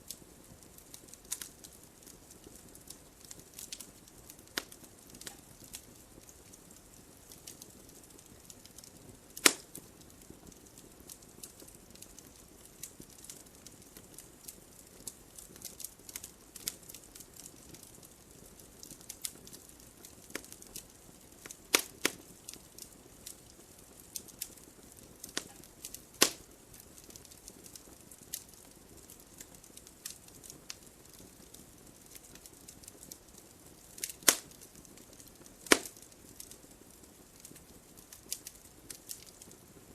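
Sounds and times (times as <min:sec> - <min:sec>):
wood fire crackling: 0:00.0 - 0:39.9
loud pops of fire: 0:00.1 - 0:39.9.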